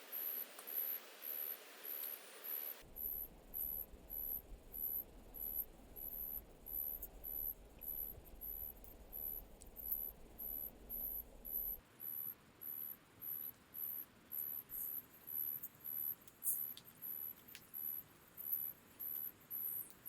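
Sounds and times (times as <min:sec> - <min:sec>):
cricket chirping: 0:00.0 - 0:20.0
faint background noise: 0:00.0 - 0:20.0.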